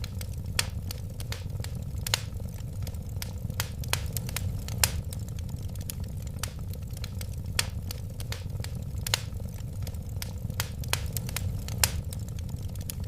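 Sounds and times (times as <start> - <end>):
low rumble of flames: 0.0 - 13.0
wood fire crackling: 0.0 - 13.0.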